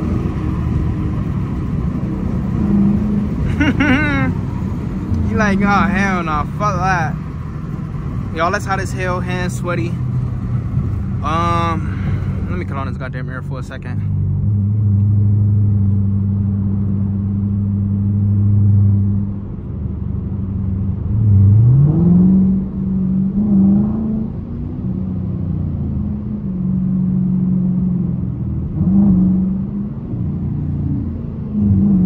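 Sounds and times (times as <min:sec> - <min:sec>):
car engine revving: 0:00.0 - 0:32.0
road noise: 0:00.0 - 0:32.0.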